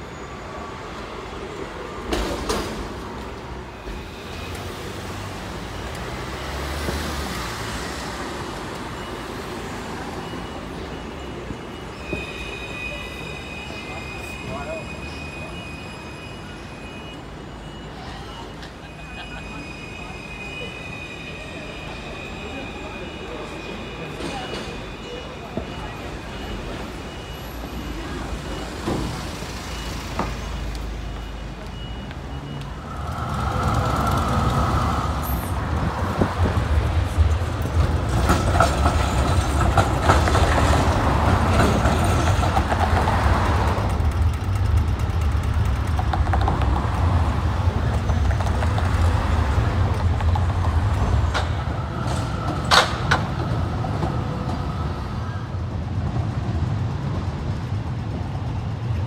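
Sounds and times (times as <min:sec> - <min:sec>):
traffic rumble: 0:00.0 - 0:59.0
trams passing: 0:00.0 - 0:59.0.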